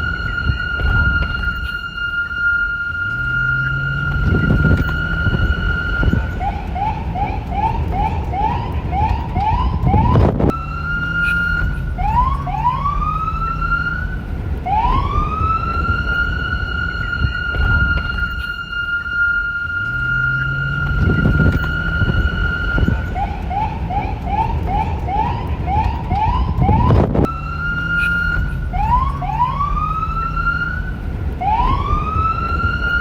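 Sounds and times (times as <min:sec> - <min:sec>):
electronic police siren: 0:00.0 - 0:33.0
low hum: 0:00.0 - 0:33.0
low rumble: 0:00.0 - 0:33.0.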